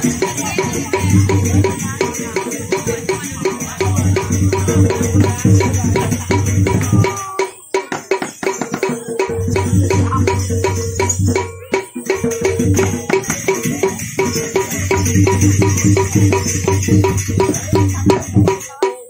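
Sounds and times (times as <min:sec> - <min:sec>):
gamelan playing: 0:01.1 - 0:18.7.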